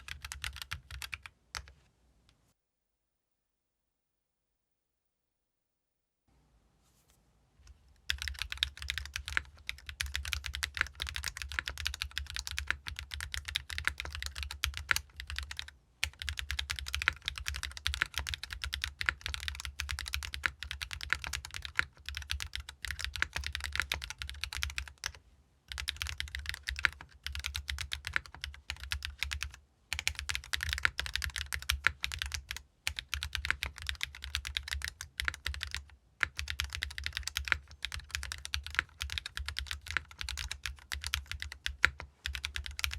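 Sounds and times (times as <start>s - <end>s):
fast typing on mechanical keyboard: 0.0s - 1.7s, 8.1s - 42.9s.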